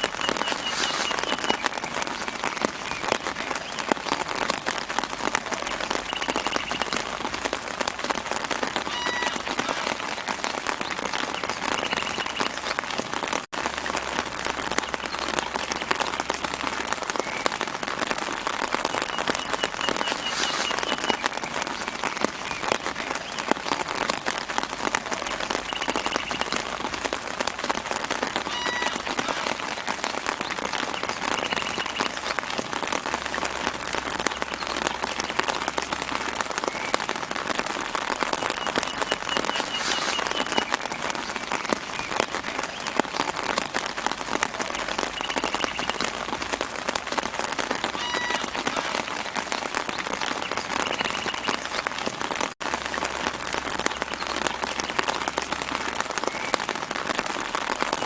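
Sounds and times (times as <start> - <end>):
light rain on leaves: 0.0 - 58.0.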